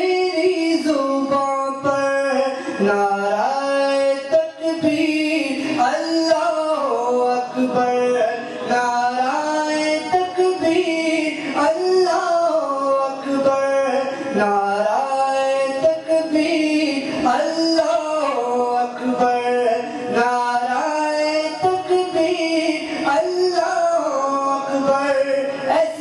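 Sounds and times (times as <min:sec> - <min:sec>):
man singing into microphone: 0:00.0 - 0:26.0.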